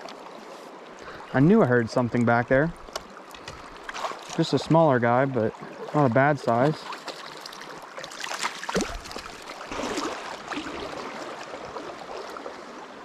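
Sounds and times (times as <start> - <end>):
creek water rushing: 0.0 - 13.0
water swishes: 0.0 - 13.0.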